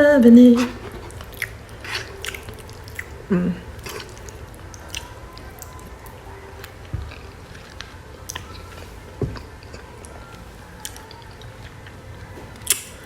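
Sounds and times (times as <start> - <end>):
person chewing food: 0.6 - 13.0.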